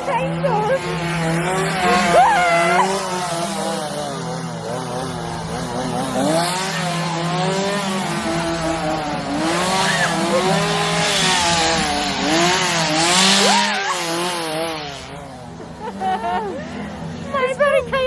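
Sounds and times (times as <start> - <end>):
chainsaw engines revving: 0.0 - 17.4.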